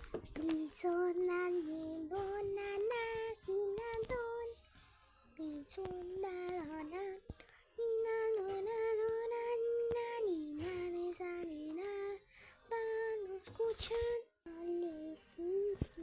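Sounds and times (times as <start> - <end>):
child singing: 0.0 - 4.7, 5.4 - 16.0.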